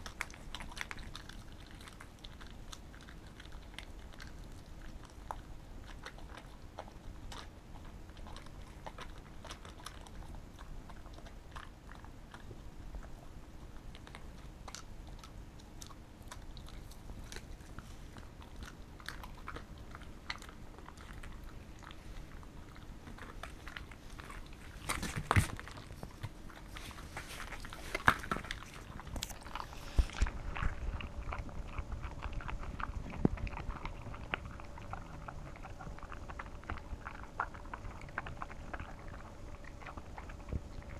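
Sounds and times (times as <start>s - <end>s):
dog chewing and crunching treat: 0.0s - 40.9s.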